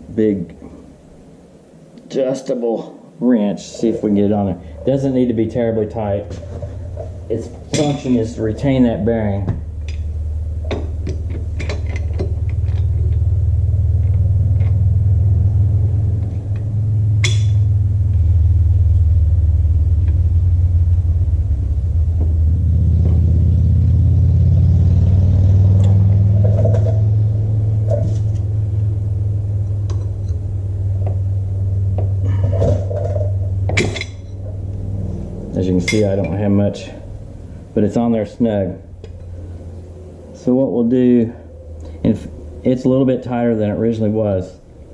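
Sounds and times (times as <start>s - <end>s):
low machine rumble: 2.8s - 44.9s.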